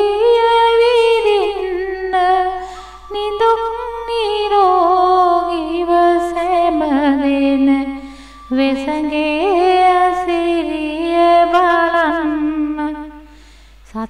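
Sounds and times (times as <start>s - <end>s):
woman singing devotional verse: 0.0s - 14.0s.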